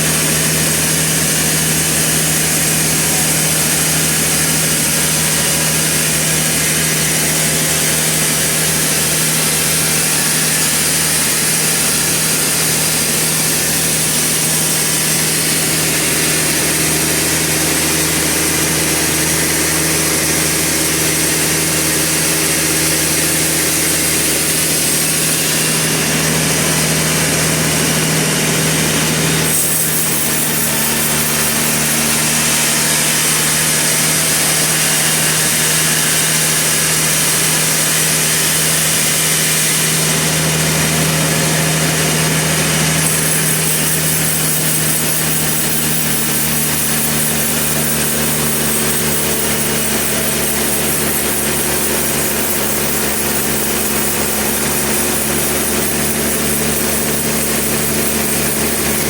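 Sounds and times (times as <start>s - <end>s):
saw cutting through log: 0.0s - 59.0s.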